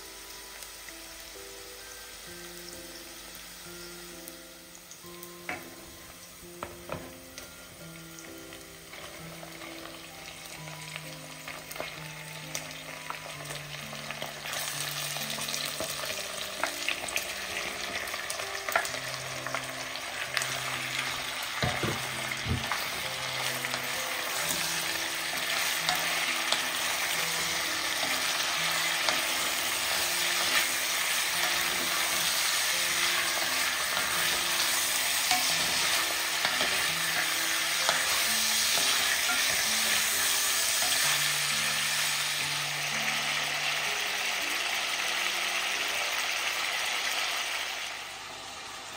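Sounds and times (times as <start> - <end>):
meat sizzling in hot oil: 0.0 - 48.9.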